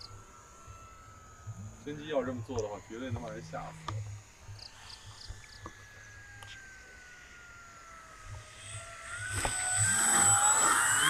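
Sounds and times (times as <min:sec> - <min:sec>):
electric motor and propeller whine: 0:00.0 - 0:11.0.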